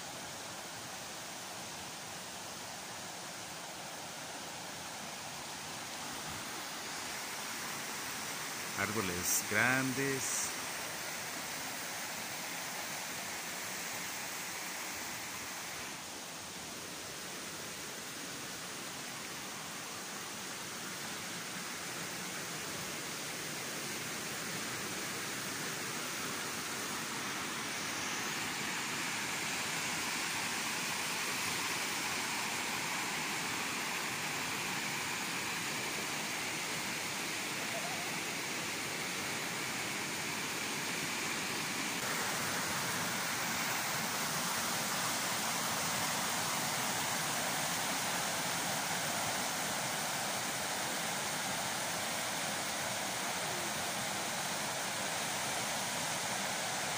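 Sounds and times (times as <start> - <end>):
river rapids rushing: 0.6 - 20.7, 22.5 - 56.9.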